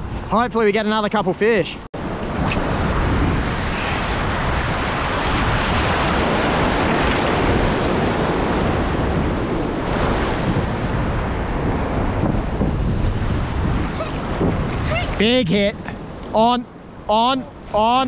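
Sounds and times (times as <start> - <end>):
wind rumbling on microphone: 0.0 - 1.2, 2.0 - 18.0
surf washing on beach: 2.0 - 18.0.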